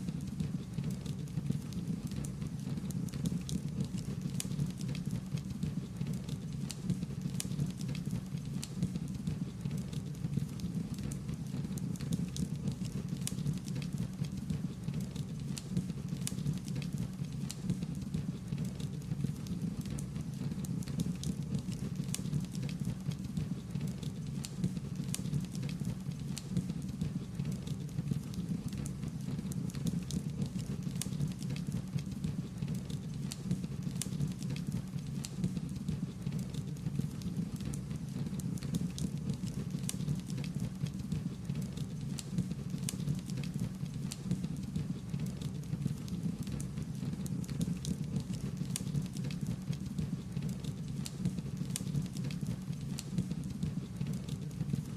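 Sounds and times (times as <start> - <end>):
wood fire crackling: 0.1 - 54.9.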